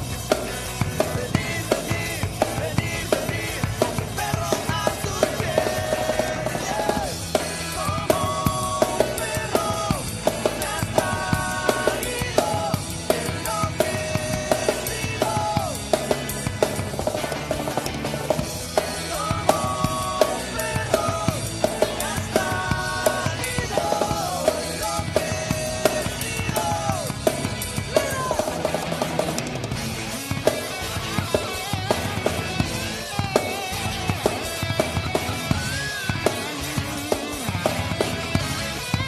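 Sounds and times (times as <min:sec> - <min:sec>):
drum kit beat: 0:00.0 - 0:39.0.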